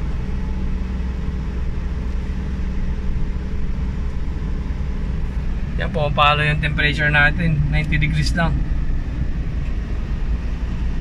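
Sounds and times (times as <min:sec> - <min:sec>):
car engine pulling under load: 0:00.0 - 0:11.0
road noise: 0:00.0 - 0:11.0.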